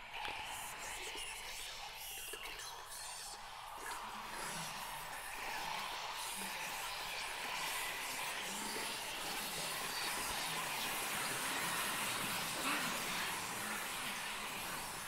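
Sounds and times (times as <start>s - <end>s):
many whispered voices: 0.0s - 15.0s.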